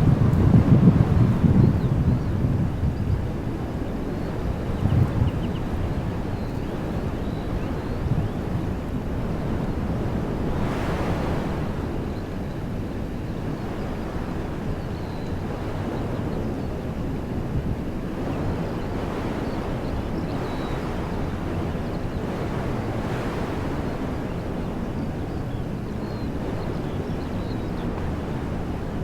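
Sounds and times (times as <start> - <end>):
wind gusting through trees: 0.0 - 29.0
wind rumble on microphone: 0.0 - 29.0.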